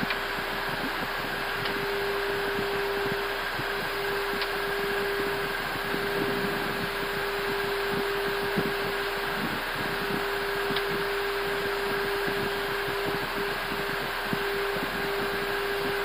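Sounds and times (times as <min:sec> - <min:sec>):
rush of airflow: 0:00.0 - 0:16.0
steady hum: 0:00.0 - 0:16.0
faint high steady tone: 0:01.4 - 0:16.0.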